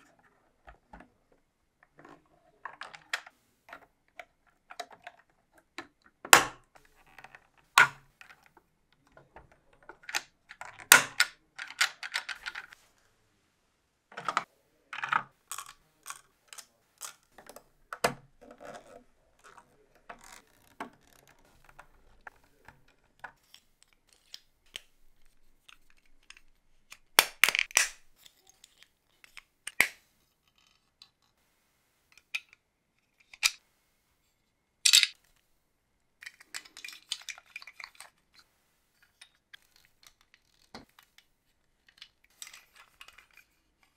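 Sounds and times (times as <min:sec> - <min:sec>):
plastic parts clicking: 0:01.8 - 0:12.8, 0:14.1 - 0:31.4, 0:32.2 - 0:33.6, 0:34.8 - 0:35.4, 0:36.2 - 0:38.4, 0:39.0 - 0:43.9.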